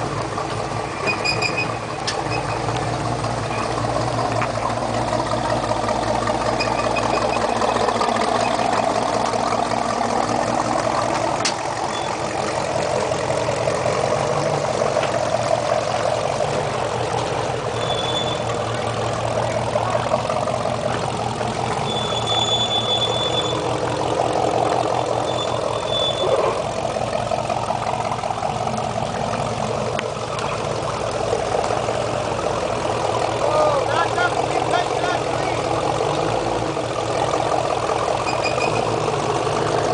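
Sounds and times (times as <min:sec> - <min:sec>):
truck engine running at low revs: 0:00.0 - 0:39.9.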